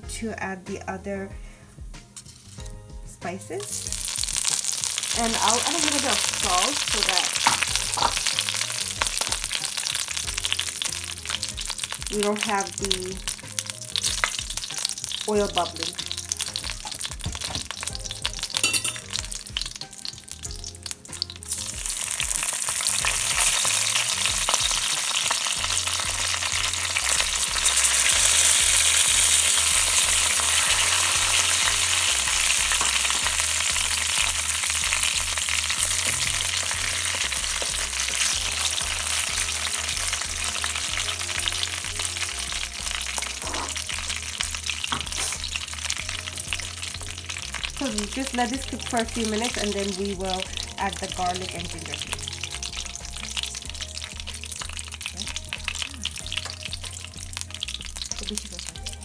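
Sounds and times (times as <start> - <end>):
spices sizzling in hot oil: 0.0 - 59.0.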